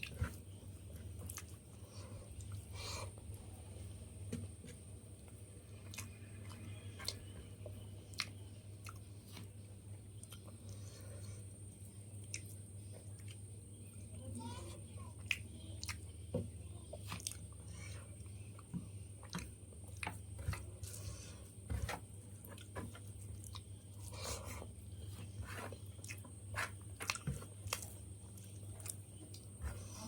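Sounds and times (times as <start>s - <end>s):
person chewing food: 0.0s - 3.5s, 4.5s - 13.6s, 15.0s - 30.0s.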